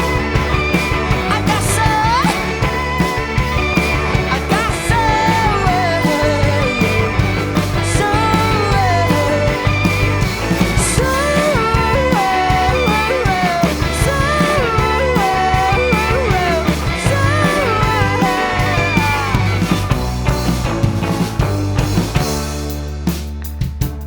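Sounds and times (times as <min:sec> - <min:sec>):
rock band playing instrumental: 0:00.0 - 0:24.0.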